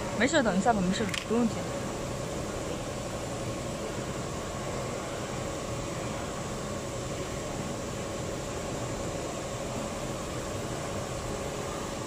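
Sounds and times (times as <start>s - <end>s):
faint steady whine: 0.0s - 12.0s
machinery hum: 0.0s - 12.0s.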